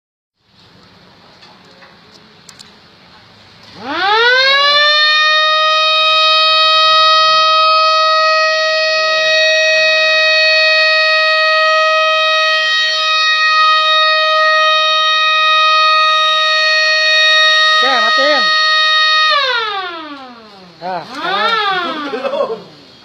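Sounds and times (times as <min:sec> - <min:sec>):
fire alarm siren high tone: 0:03.7 - 0:22.6.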